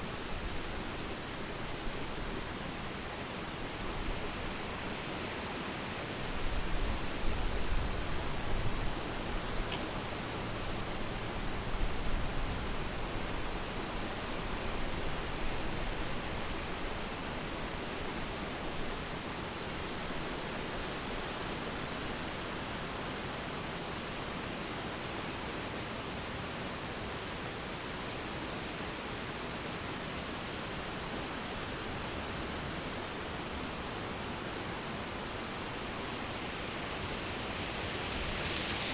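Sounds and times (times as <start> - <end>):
background hiss: 0.0 - 38.9
crickets trilling: 0.0 - 38.9.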